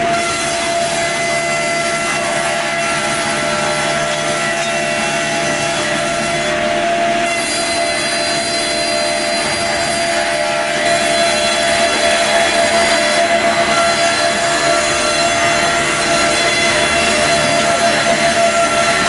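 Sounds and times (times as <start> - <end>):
board edger saws whining: 0.0 - 19.0.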